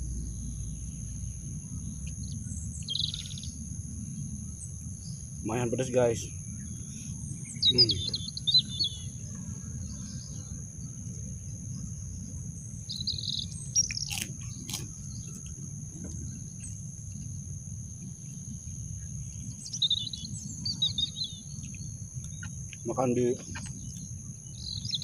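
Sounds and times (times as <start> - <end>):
birds chirping: 0.0 - 25.0
low outdoor rumble: 0.0 - 25.0
steady high-pitched whine: 0.0 - 25.0.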